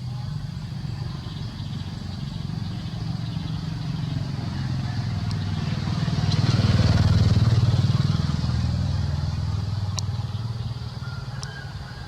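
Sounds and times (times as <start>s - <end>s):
motor engine running: 0.0s - 11.6s.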